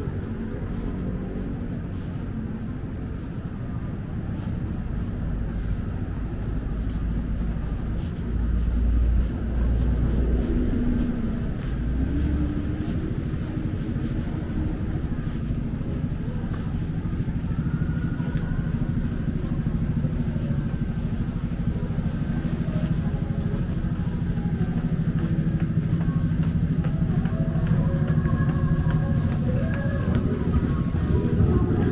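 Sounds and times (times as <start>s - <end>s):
background traffic: 0.0s - 31.9s
vehicle engine rumbling: 0.0s - 31.9s.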